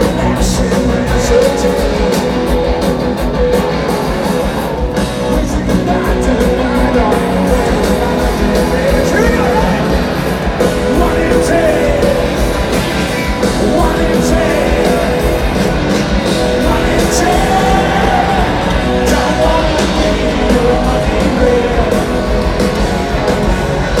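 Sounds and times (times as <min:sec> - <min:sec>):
person singing: 0:00.0 - 0:02.4, 0:05.1 - 0:24.0
rock band playing: 0:00.0 - 0:24.0.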